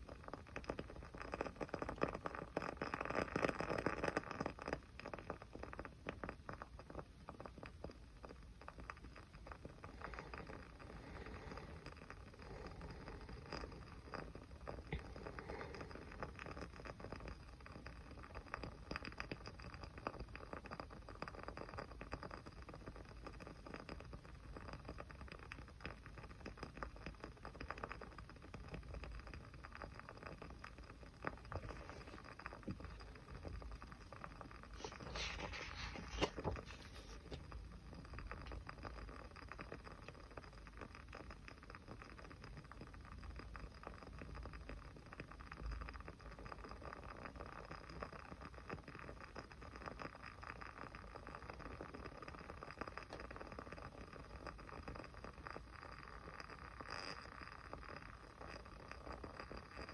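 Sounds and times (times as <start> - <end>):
small fire crackling: 0.0 - 59.9.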